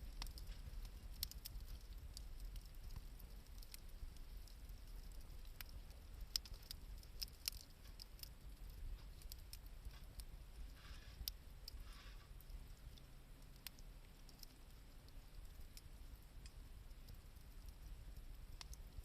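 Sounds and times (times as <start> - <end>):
campfire crackling and popping: 0.0 - 19.0
low steady rumble: 0.0 - 19.0.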